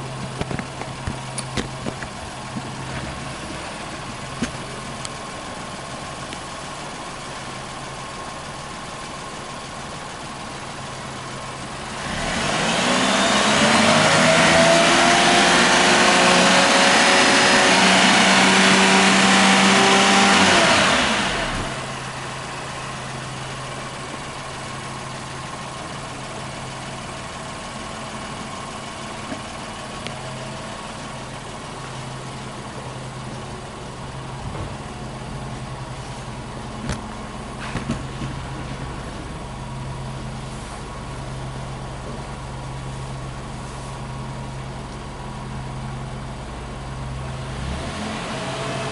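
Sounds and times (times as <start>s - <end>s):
car engine revving and idling: 0.0s - 48.9s.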